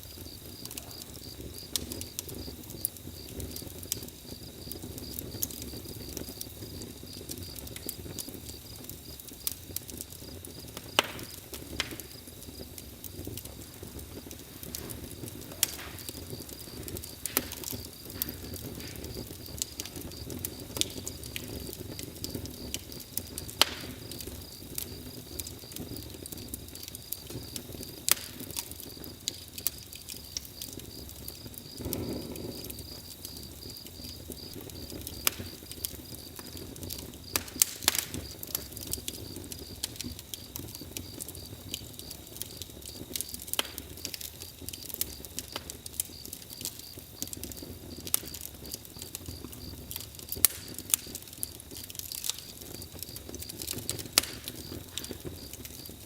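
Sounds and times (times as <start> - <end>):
campfire crackling: 0.0 - 56.0
rush of flames: 0.0 - 56.0.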